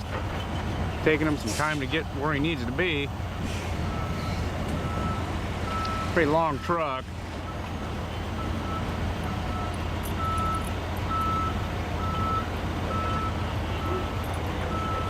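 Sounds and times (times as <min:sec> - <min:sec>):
truck engine drone: 0:00.0 - 0:15.0
truck reversing alarm beeping: 0:00.0 - 0:15.0.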